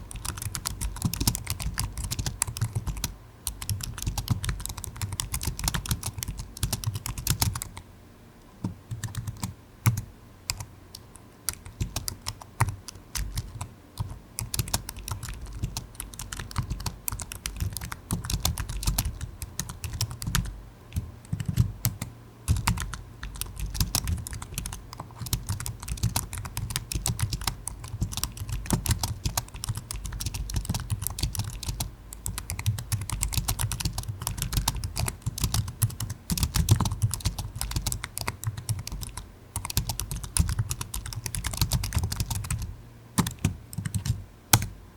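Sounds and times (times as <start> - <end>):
computer keyboard typing: 0.0 - 7.8, 8.6 - 44.7.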